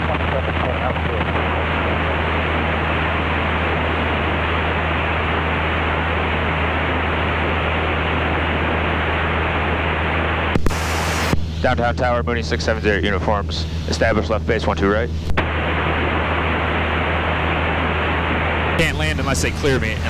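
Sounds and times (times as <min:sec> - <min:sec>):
propeller aircraft engine droning: 0:00.0 - 0:20.0.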